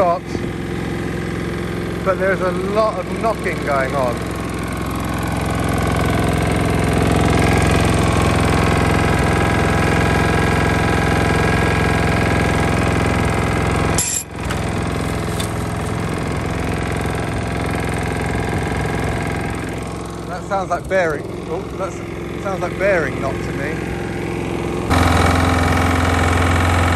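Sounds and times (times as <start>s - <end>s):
lawn mower engine knocking: 0.4s - 26.9s.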